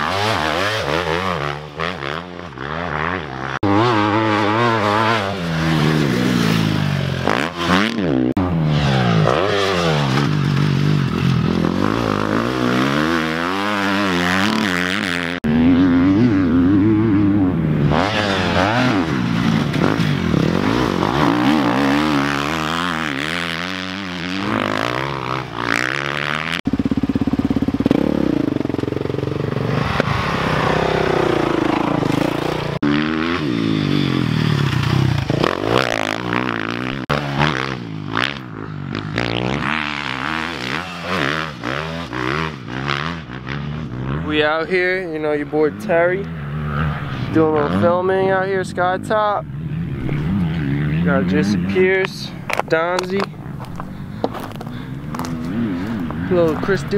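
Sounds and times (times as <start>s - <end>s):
dirt bike engines revving: 0.0s - 56.9s.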